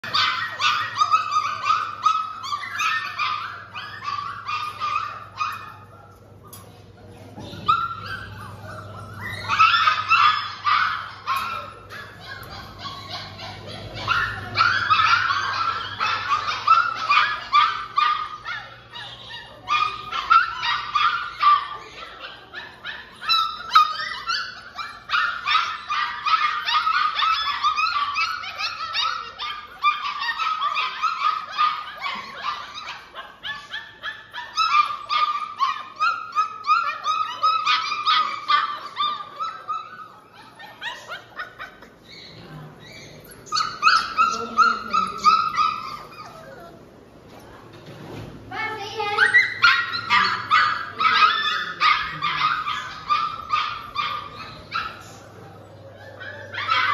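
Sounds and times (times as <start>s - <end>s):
puppies yipping and whining: 0.0s - 56.9s.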